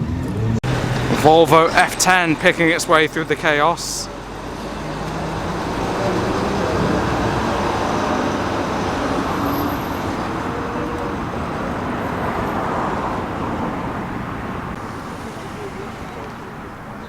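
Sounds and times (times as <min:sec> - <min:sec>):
lorry diesel engine running: 0:00.2 - 0:17.0.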